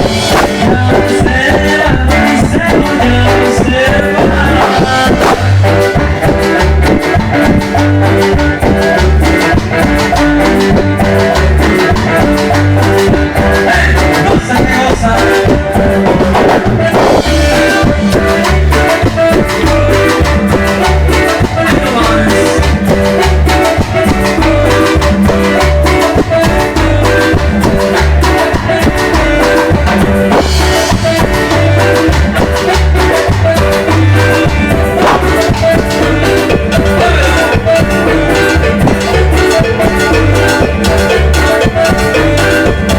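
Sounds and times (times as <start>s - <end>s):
pulsing bass line: 0.0s - 42.9s
salsa music on electronic keyboards: 0.0s - 42.9s
steady drum beat: 0.0s - 42.9s.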